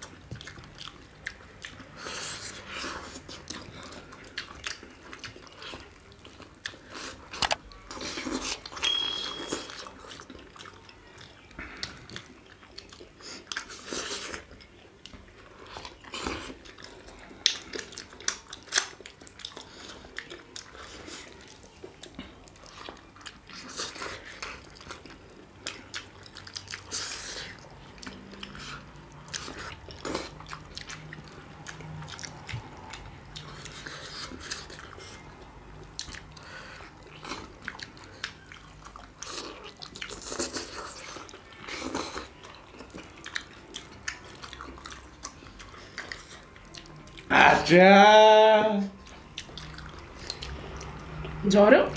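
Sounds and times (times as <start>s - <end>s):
people chewing food: 0.0s - 51.9s.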